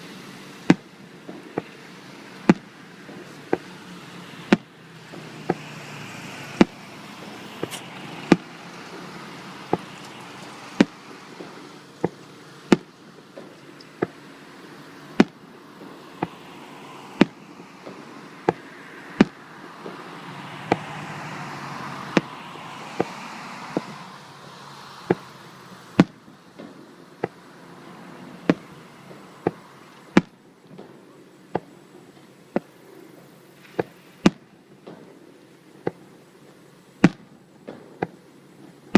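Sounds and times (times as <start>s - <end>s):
background rumble and hiss: 0.0s - 38.9s
fireworks bangs: 0.0s - 38.9s.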